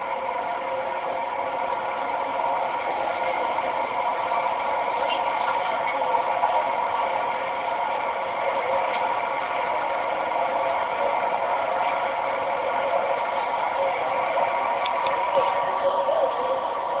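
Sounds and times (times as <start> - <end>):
muffled motorcycle engines: 0.0 - 17.0.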